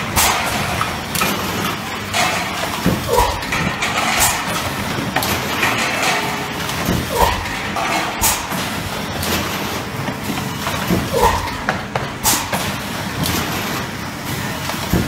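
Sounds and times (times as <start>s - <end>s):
machine running with knocks: 0.0s - 15.0s.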